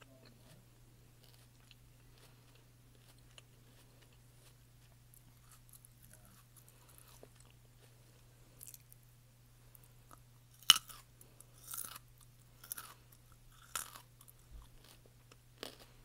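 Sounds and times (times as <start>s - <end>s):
steady low hum: 0.0s - 16.0s
close-miked chewing: 1.2s - 9.0s, 9.7s - 16.0s.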